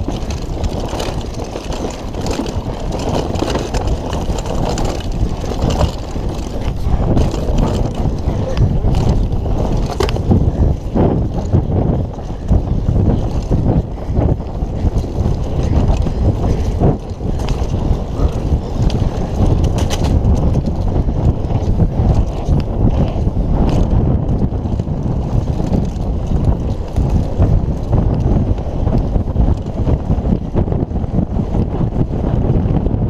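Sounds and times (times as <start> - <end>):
tyres rumbling on dirt: 0.0 - 32.6
bike rattling and knocking: 0.0 - 33.0
wind buffeting microphone: 0.0 - 33.0.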